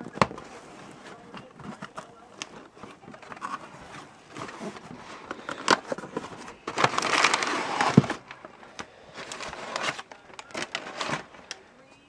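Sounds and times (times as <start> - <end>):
packing paper rustling: 0.0 - 12.0.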